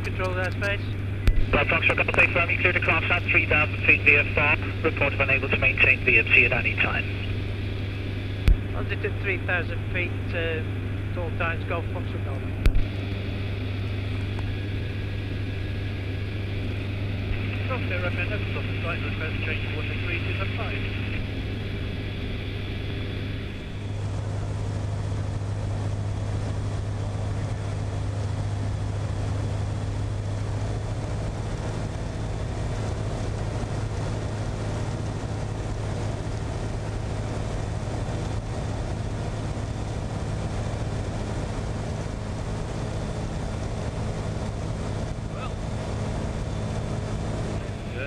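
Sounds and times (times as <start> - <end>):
light aircraft engine droning: 0.0 - 48.0.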